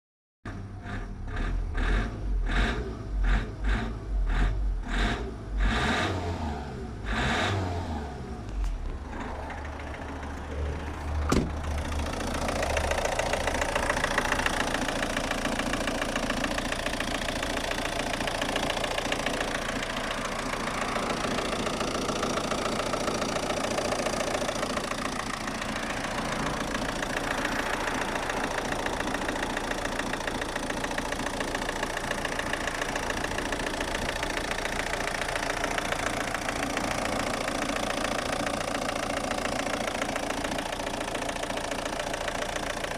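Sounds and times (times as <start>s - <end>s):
diesel engine clattering: 8.4s - 42.9s.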